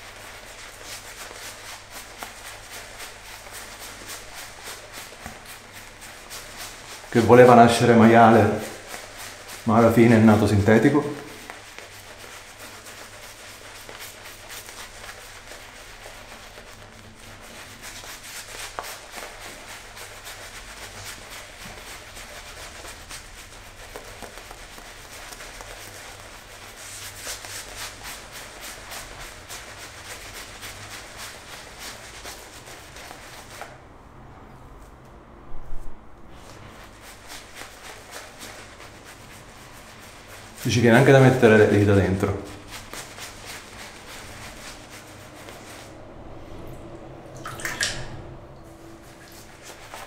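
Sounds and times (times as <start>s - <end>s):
shaving brush swishing on stubble: 0.0s - 50.0s.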